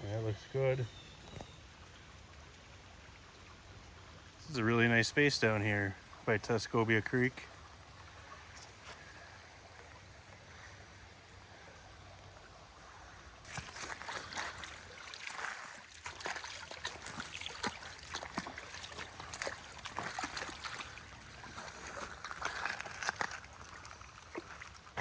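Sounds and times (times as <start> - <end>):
creek water pouring from culvert: 0.0 - 25.0.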